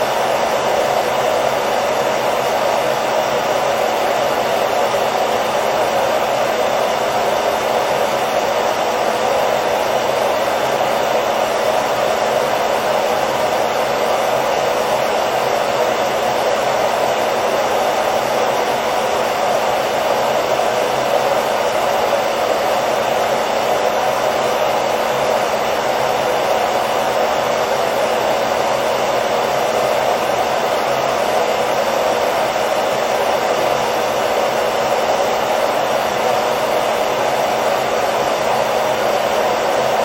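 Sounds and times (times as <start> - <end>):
hairdryer blowing: 0.0 - 40.0.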